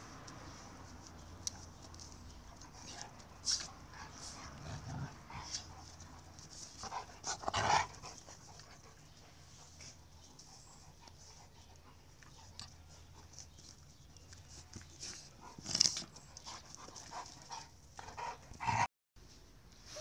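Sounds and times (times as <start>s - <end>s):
dogs play-fighting: 0.2s - 18.9s.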